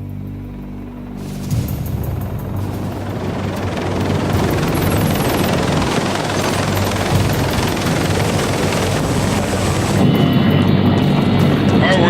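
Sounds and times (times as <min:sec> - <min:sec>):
helicopter rotor chop: 0:00.0 - 0:12.0
music: 0:00.0 - 0:12.0
turbine engine whine: 0:00.0 - 0:12.0.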